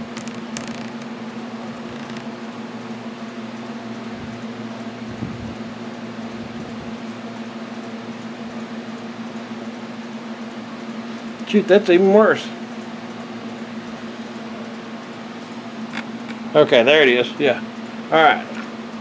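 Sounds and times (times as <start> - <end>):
airy fan noise: 0.0 - 19.0
electric hum: 0.0 - 19.0.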